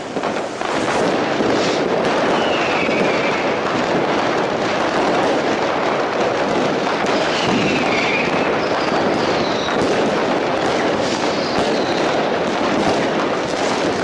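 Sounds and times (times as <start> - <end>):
falling firework whistles: 0.0 - 4.0, 6.8 - 14.0
fireworks bangs and crackles: 0.0 - 14.0.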